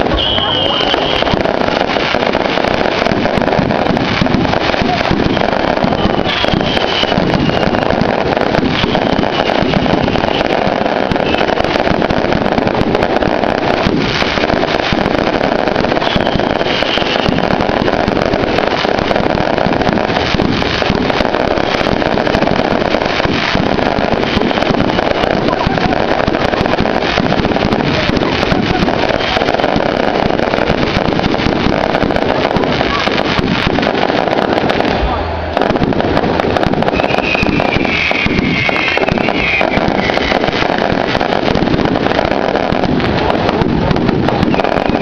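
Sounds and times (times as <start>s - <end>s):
bonfire roaring and crackling: 0.0s - 45.0s.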